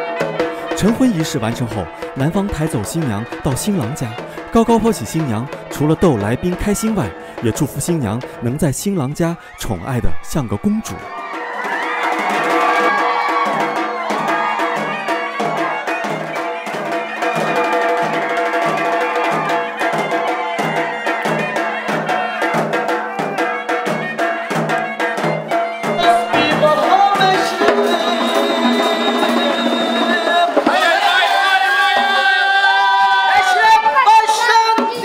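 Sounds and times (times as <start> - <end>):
frame drum beat: 0.0 - 9.2, 10.9 - 32.3
folk dance music: 0.0 - 35.0.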